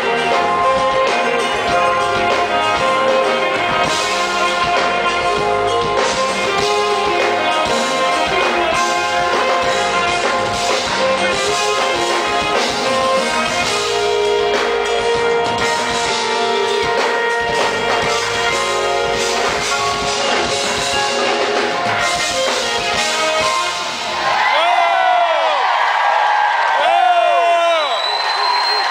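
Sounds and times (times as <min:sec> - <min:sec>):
saxophone melody: 0:00.0 - 0:24.5
smooth jazz band playing: 0:00.0 - 0:26.0.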